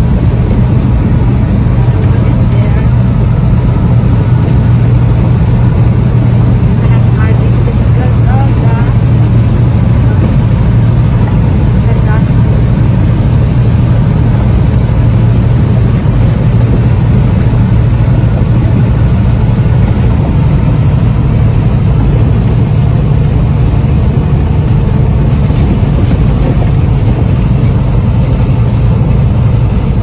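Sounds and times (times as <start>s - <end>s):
heavy truck engine drone: 0.0s - 30.0s
road noise: 0.0s - 30.0s.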